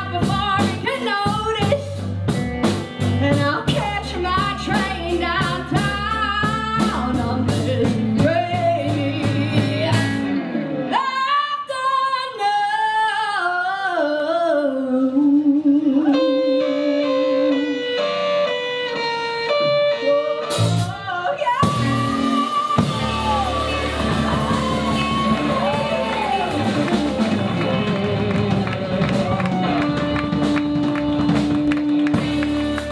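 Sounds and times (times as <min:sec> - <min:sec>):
woman singing: 0:00.0 - 0:02.0, 0:03.1 - 0:17.8, 0:20.8 - 0:32.5
live rock band: 0:00.0 - 0:11.8, 0:16.0 - 0:32.9.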